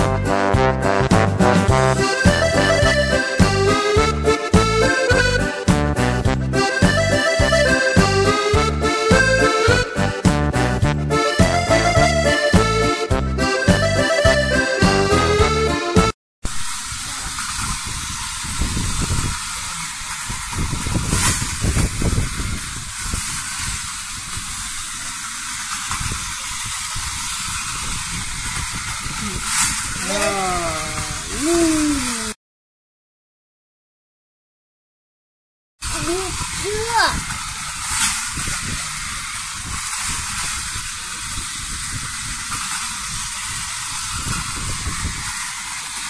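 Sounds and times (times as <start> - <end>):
toy train rattling on plastic track: 1.9 - 14.8, 16.5 - 32.2, 35.8 - 46.0.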